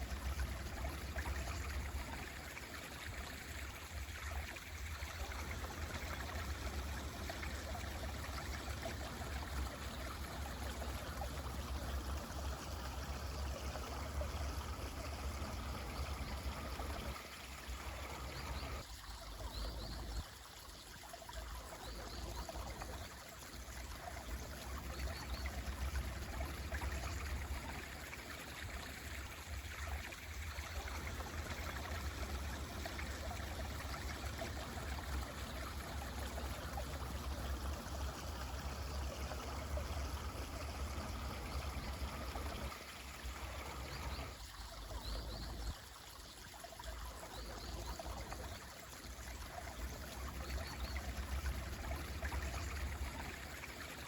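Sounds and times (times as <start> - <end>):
stream flowing and burbling: 0.0 - 54.0.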